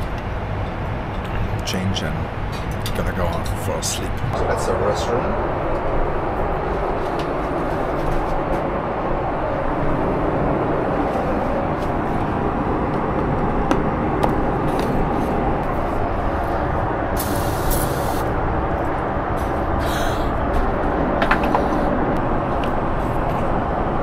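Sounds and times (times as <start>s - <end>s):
airliner cabin roar: 0.0s - 24.0s.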